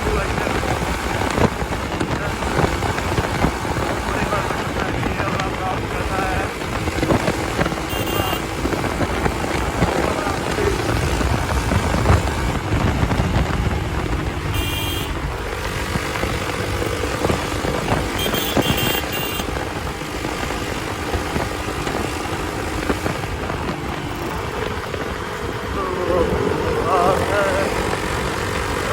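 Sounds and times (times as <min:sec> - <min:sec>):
motorcycle engine running: 0:00.0 - 0:28.9
road noise: 0:00.0 - 0:28.9.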